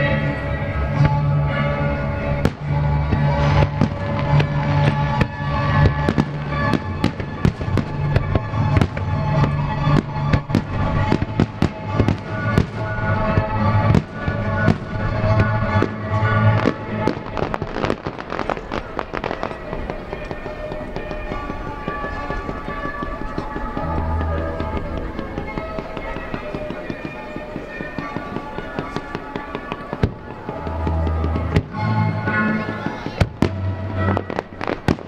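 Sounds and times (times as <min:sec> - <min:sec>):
fireworks bursting: 0:00.0 - 0:35.0
music playing: 0:00.0 - 0:35.0.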